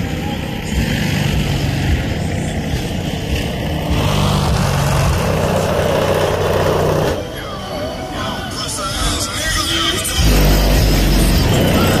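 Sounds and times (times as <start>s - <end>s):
road noise: 0.0s - 12.0s
vehicle engine cruising: 0.0s - 12.0s.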